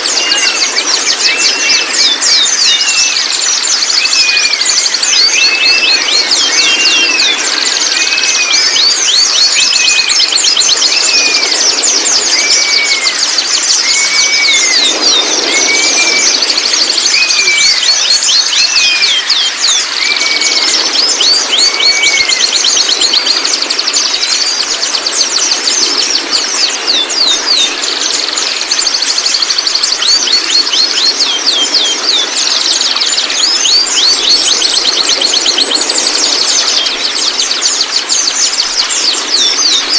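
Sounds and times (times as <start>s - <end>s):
arched whistled bird call: 0.0s - 39.9s
bird chirps: 0.0s - 39.9s.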